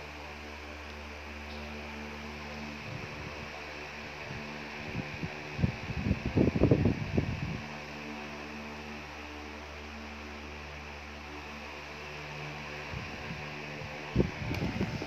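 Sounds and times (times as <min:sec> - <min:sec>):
steady low appliance hum: 0:00.0 - 0:15.0.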